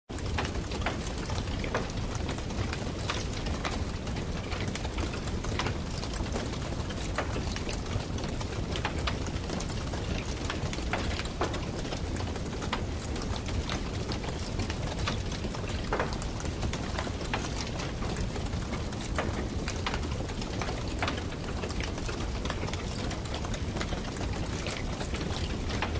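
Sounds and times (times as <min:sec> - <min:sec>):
campfire crackling and popping: 0:00.3 - 0:25.9.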